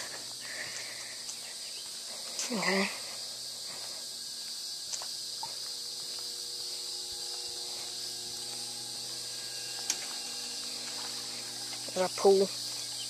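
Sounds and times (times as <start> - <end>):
crickets and insects chirring: 0.0 - 13.0.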